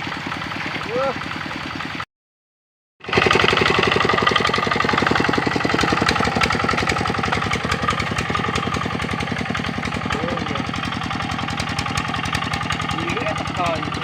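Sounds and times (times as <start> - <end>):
diesel engine chugging: 0.0 - 2.1, 3.0 - 14.0.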